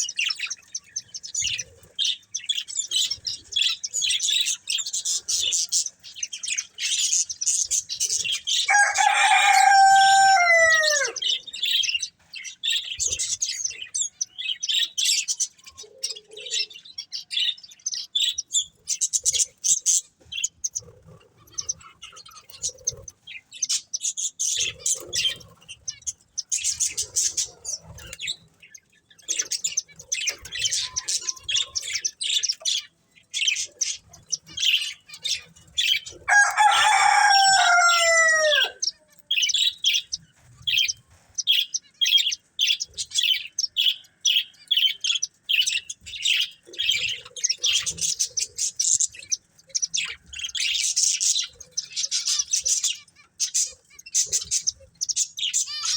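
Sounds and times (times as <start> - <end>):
budgerigars chirping: 0.0 - 55.9.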